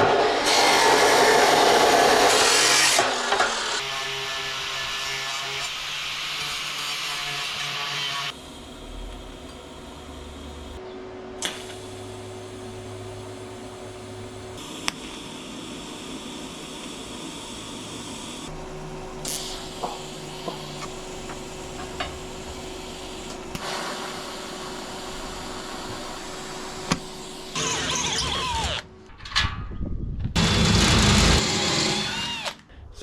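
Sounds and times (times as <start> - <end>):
steady mechanical hum: 0.0 - 31.6.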